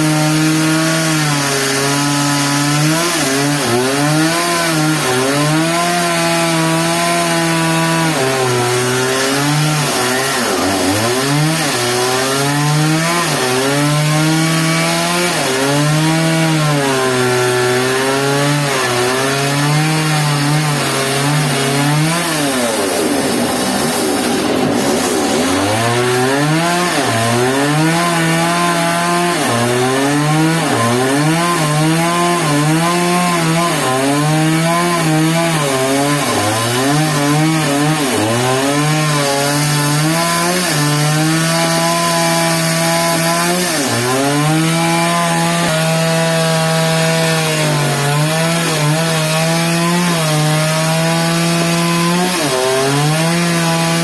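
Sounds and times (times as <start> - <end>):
sawmill saw cutting wood: 0.0 - 54.0.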